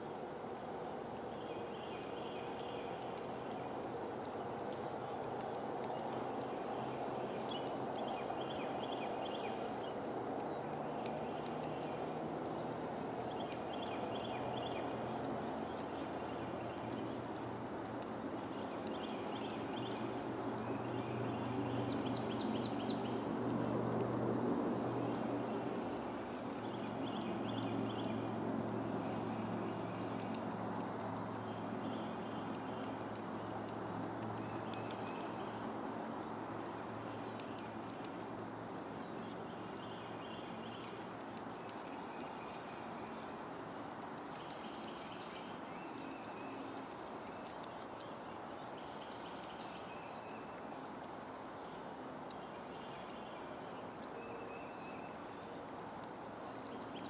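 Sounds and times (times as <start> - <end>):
high-pitched insect trill: 0.0 - 57.0
insect chirping: 0.0 - 57.0.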